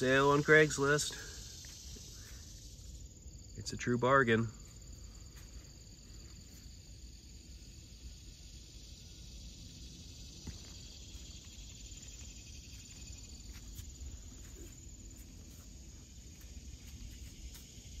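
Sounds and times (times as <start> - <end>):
high hiss: 0.0 - 18.0.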